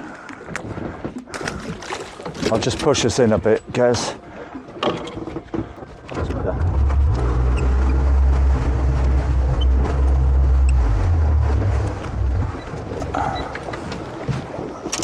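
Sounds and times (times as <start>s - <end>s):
boat engine humming: 0.0s - 15.0s
water noise: 0.0s - 15.0s
wind: 0.0s - 15.0s.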